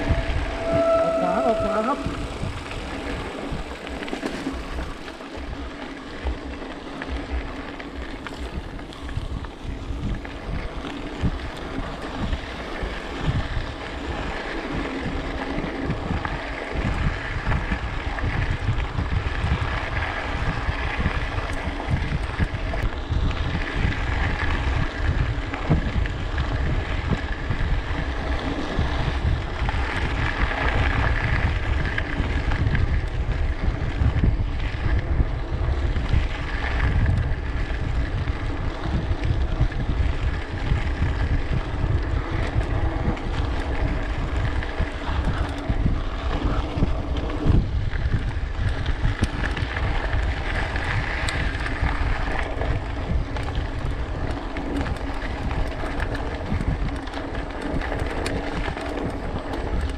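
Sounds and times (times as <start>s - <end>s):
tyres rumbling on trail: 0.0s - 59.9s
wind on microphone: 0.0s - 59.9s.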